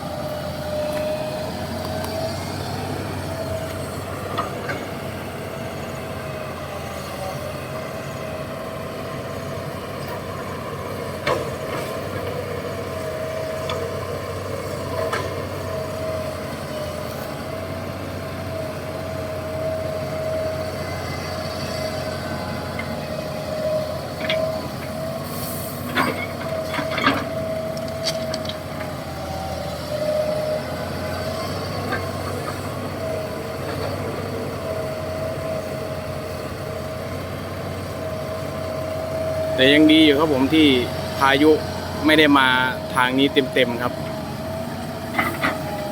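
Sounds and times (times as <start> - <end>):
diesel truck engine rumble: 0.0 - 45.9.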